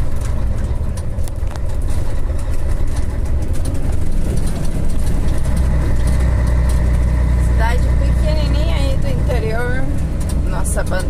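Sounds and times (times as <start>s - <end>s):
light ticks and rattles: 0.0s - 11.0s
truck diesel engine rumble: 0.0s - 11.0s.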